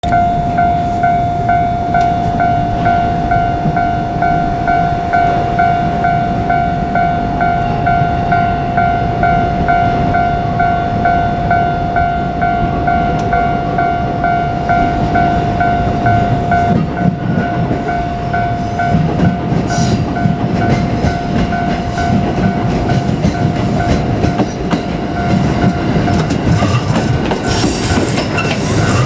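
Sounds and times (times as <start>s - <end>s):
level crossing warning bell: 0.0s - 29.0s
low train rumble: 0.0s - 29.0s.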